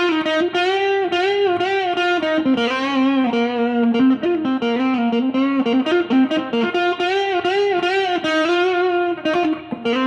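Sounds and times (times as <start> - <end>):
electric guitar lead with bends: 0.0 - 10.0.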